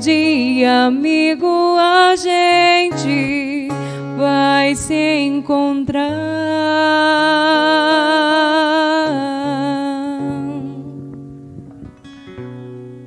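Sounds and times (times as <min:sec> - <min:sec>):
woman singing with vibrato: 0:00.0 - 0:11.7
acoustic guitar: 0:00.0 - 0:13.0.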